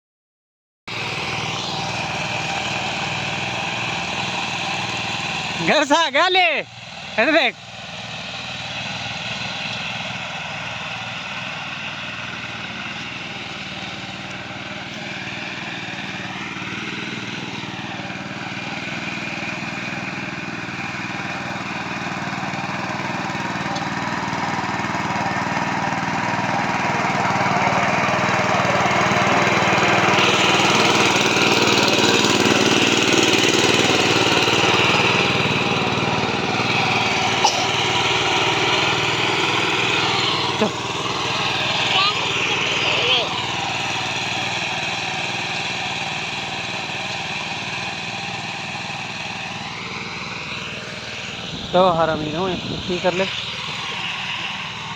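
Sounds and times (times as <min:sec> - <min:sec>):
diesel tractor engine running: 0:00.9 - 0:54.9.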